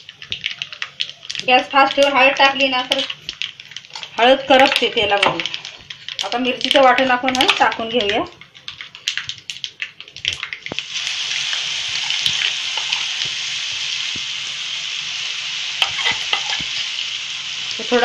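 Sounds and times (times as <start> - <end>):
paste sizzling in hot oil: 0.0 - 18.0.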